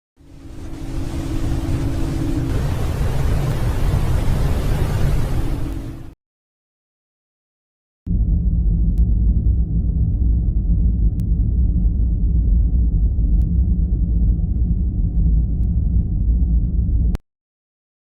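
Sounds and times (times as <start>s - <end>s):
deep steady rumbling drone: 0.2s - 6.1s, 8.1s - 17.2s.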